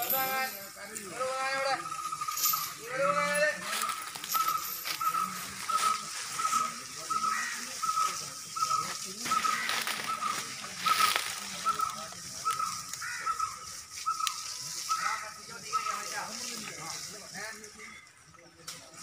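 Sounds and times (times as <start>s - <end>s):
faint voices: 0.0s - 19.0s
hose water splashing: 3.5s - 19.0s.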